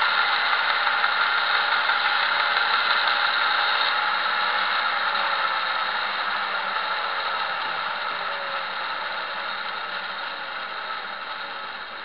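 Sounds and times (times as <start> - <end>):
bandsaw mill whirring: 0.0 - 12.0.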